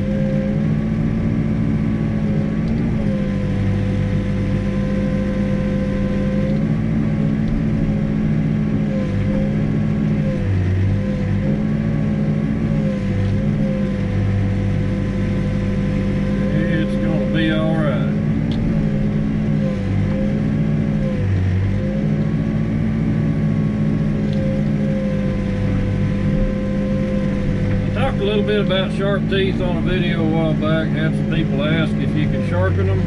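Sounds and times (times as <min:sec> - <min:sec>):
backhoe diesel engine running: 0:00.0 - 0:33.0.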